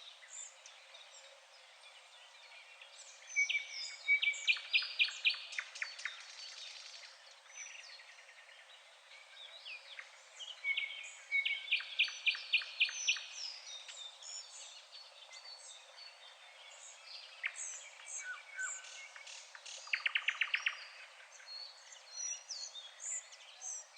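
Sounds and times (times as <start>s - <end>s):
songbirds singing and chirping: 0.0s - 23.9s.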